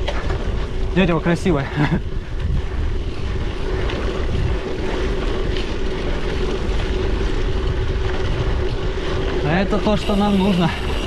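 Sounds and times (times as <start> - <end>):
bicycle rolling on rough road: 0.0 - 11.0
wind rumble on microphone: 0.0 - 11.0.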